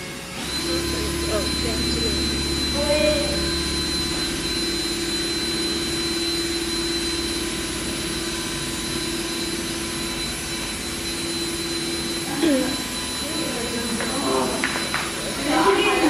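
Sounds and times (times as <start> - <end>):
mechanical whir with hum: 0.0 - 16.0.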